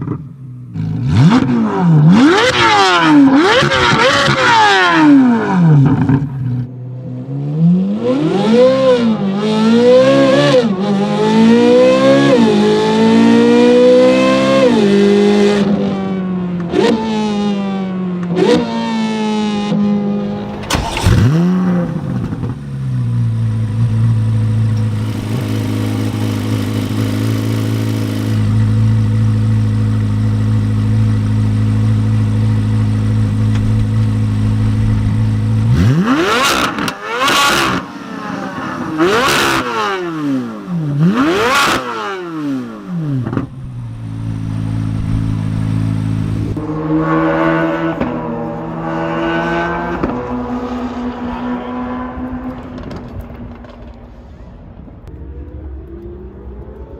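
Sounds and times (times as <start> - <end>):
car engine idling and revving: 0.0 - 54.2.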